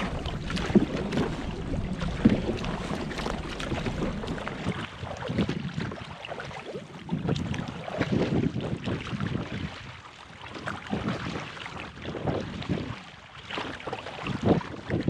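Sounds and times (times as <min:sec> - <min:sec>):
paddles splashing in water: 0:00.0 - 0:15.0
water slapping hulls: 0:00.0 - 0:15.0
wind rumble on microphone: 0:00.0 - 0:15.0.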